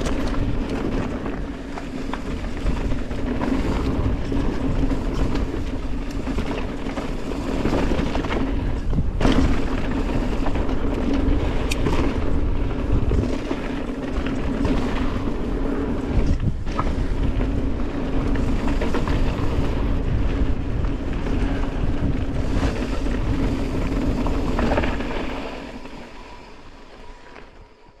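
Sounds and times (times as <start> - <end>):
bike drivetrain rattle: 0.0 - 28.0
bike tyre roar: 0.0 - 28.0
wind buffeting microphone: 0.0 - 28.0.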